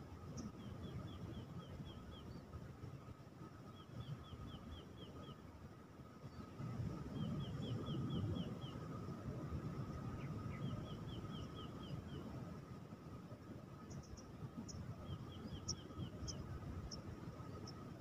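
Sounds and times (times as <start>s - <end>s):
faint steady tone: 0.0s - 18.0s.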